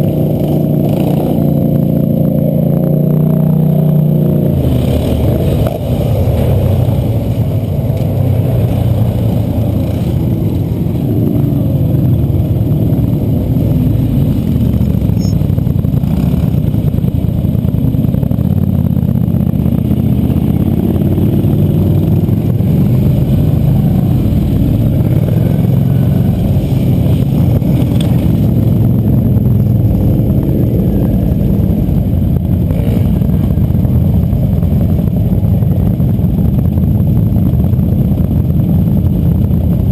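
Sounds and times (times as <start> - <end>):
quad bike engines passing: 0.0 - 39.9.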